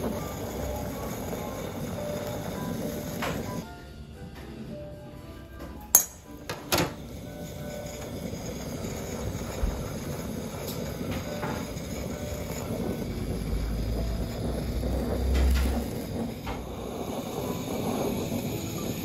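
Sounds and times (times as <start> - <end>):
blowtorch flame rushing: 0.0 - 3.6, 6.4 - 19.0.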